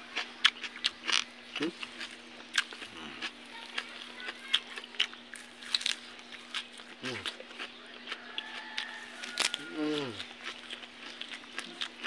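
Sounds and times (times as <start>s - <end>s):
crunching raw vegetables: 0.0s - 12.0s
steady low hum: 0.0s - 12.0s
chickens clucking: 0.1s - 12.0s.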